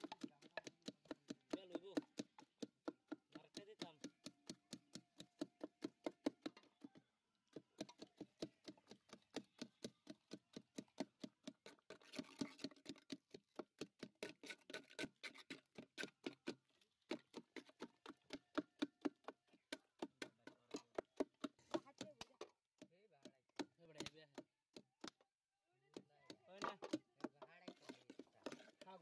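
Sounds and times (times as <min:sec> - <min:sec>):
wooden masher pounding fruit in pot: 0:00.0 - 0:29.0.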